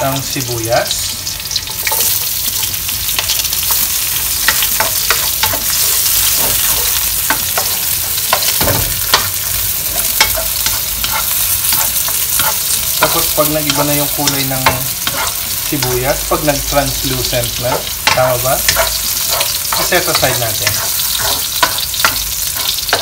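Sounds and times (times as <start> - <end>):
onion sizzling in hot oil: 0.0 - 23.0
spatula scraping and tapping pan: 1.6 - 23.0.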